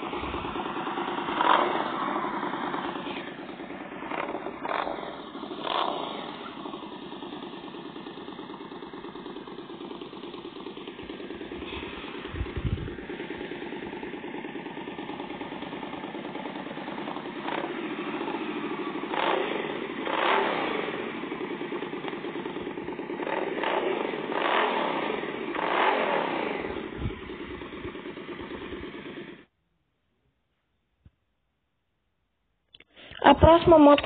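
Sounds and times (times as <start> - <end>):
motorcycle engine idling and revving: 0.0 - 29.6, 33.2 - 34.0.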